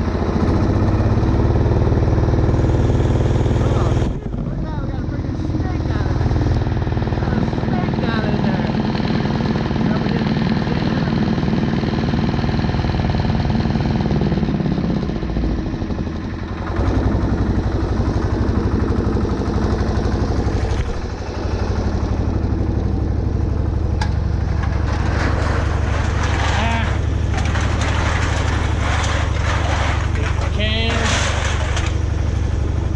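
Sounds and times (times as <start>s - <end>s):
diesel engine chugging: 0.0s - 32.9s.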